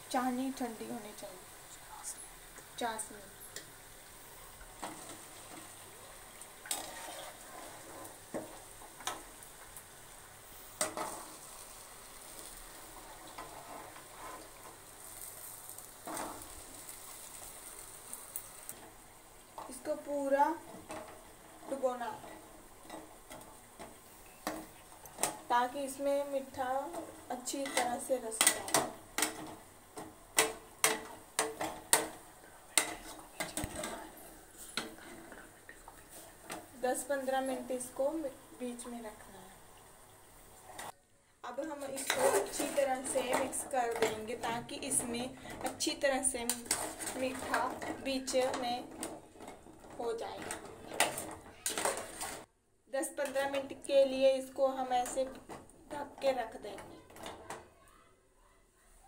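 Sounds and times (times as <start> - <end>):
food frying in hot oil: 0.0 - 57.6.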